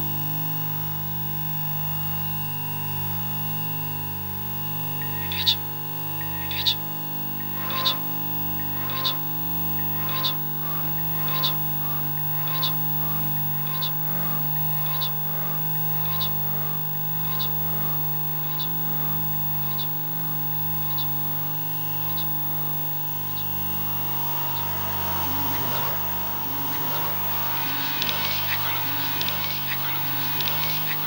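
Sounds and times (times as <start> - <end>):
electronic drone with held tones: 0.0 - 31.0.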